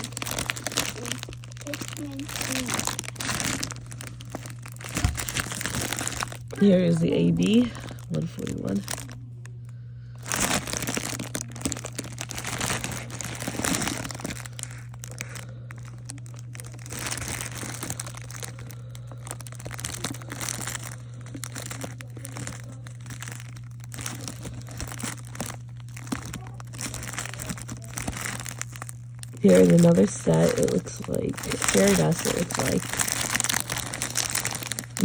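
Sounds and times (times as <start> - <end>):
plastic bags crinkling: 0.0 - 35.0
steady low hum: 0.0 - 35.0.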